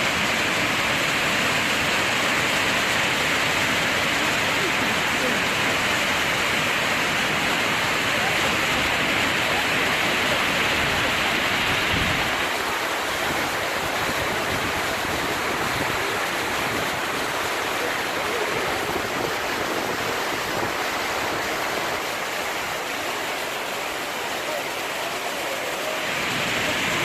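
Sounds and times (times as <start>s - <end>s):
waterfall rushing roar: 0.0s - 27.0s.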